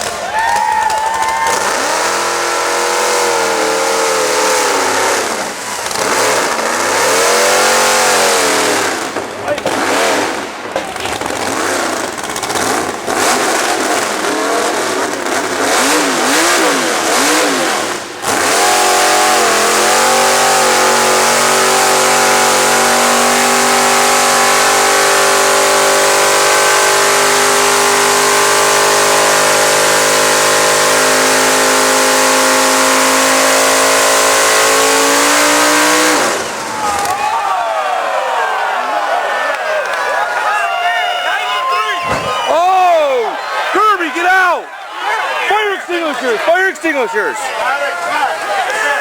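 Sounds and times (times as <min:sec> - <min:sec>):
truck engine revving: 0:00.0 - 0:40.5, 0:41.7 - 0:49.0.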